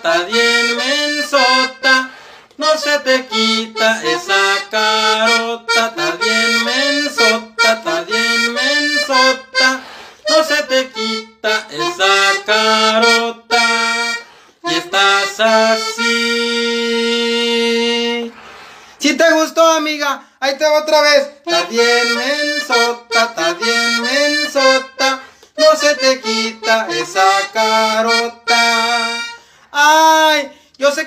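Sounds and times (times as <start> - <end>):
accordion melody: 0.0 - 19.9, 20.5 - 30.3.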